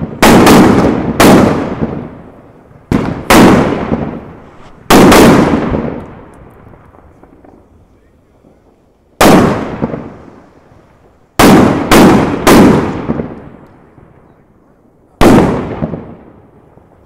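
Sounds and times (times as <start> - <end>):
fireworks bangs echoing: 0.0 - 17.0.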